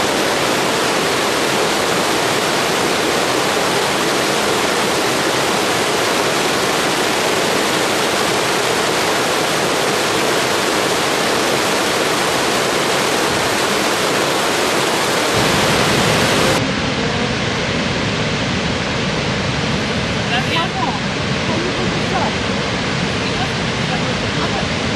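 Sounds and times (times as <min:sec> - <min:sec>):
large waterfall: 0:00.0 - 0:24.9
water rushing over rocks: 0:00.0 - 0:24.9.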